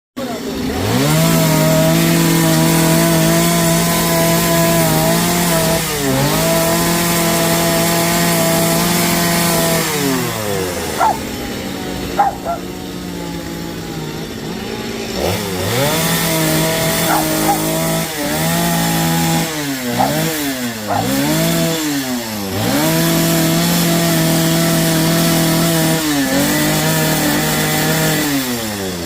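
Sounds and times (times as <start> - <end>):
chainsaw revving: 0.2 - 29.0.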